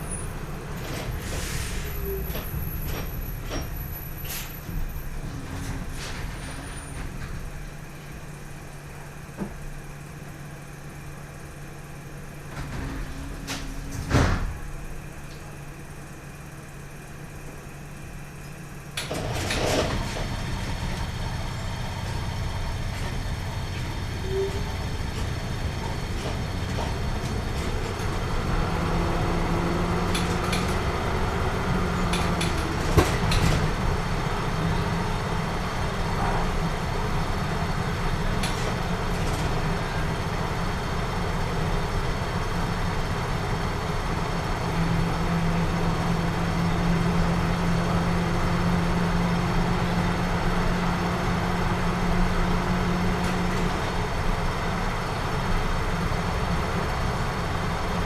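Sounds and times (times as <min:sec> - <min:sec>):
large vehicle engine rumbling: 0:00.0 - 0:58.0.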